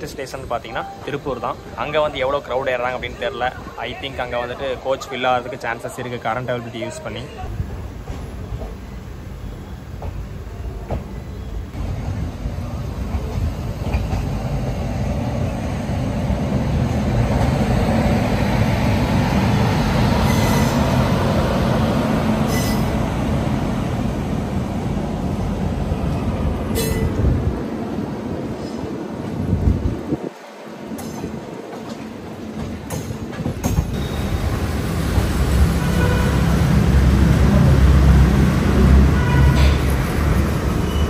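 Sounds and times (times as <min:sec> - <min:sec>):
train wheels rumbling on rails: 0:07.4 - 0:41.0.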